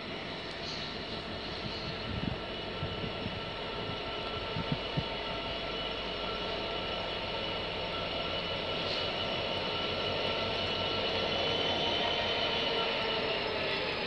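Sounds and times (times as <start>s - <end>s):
diesel locomotive engine whining: 0.0s - 14.0s.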